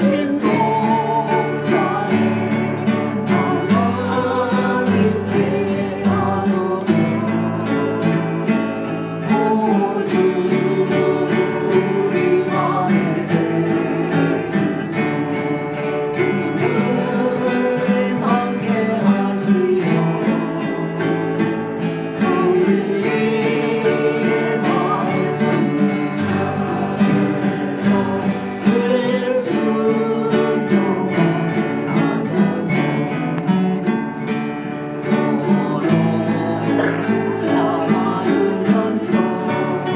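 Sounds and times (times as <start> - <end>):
acoustic guitar: 0.0 - 39.9.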